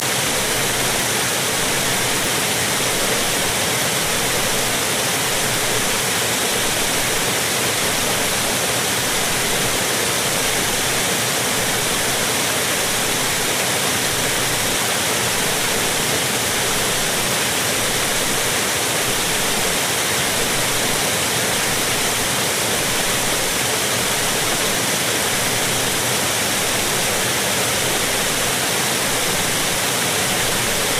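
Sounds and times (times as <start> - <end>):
fountain water splashing: 0.0 - 30.9.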